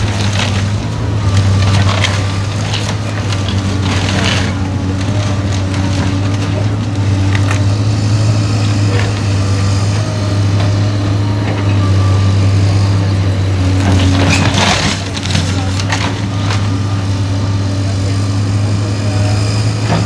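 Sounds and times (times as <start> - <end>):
demolition machine engine running: 0.0 - 20.0.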